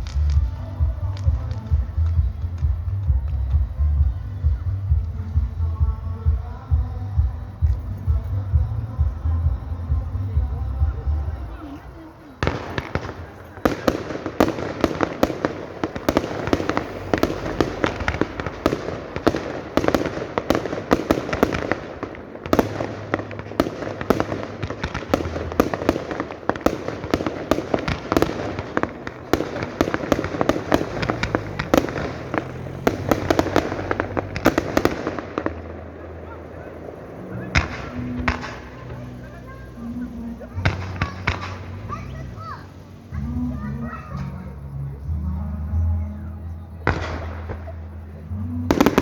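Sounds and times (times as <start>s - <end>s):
fireworks bangs and crackles: 0.0s - 46.0s, 46.7s - 49.0s.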